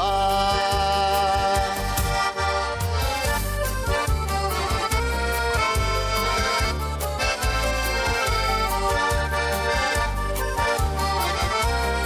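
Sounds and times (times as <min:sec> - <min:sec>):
accordion folk melody: 0:00.0 - 0:12.0.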